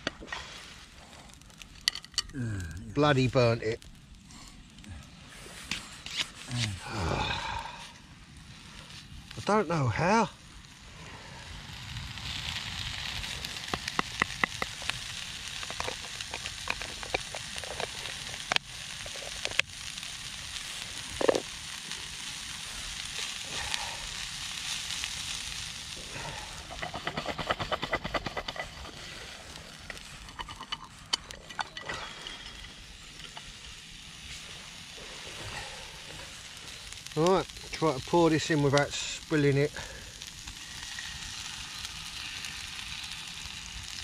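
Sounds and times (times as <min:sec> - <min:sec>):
meat and onion sizzling: 0:00.0 - 0:44.0.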